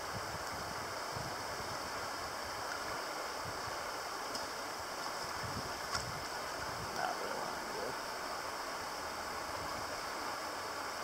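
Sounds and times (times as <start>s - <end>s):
flowing creek rushing: 0.0s - 11.0s.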